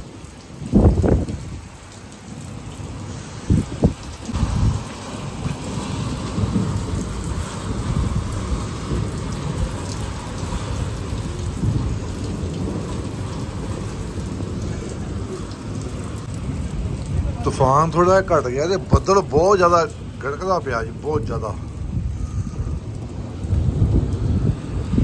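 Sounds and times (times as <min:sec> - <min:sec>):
heavy rain pouring: 0:00.0 - 0:25.0
thunder rumbling: 0:00.0 - 0:25.0.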